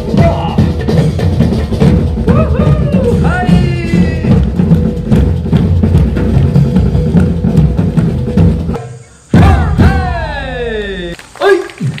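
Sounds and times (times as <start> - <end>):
percussion ensemble drumming: 0.0 - 11.2.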